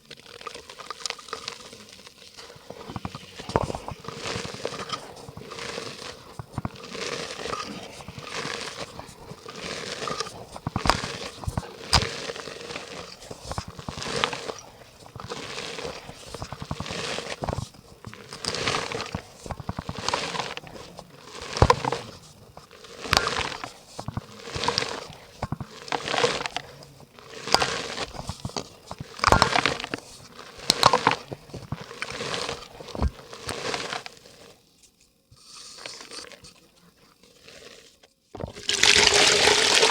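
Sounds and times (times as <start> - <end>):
dry mud crumbling in water: 0.0 - 34.5, 38.4 - 39.9.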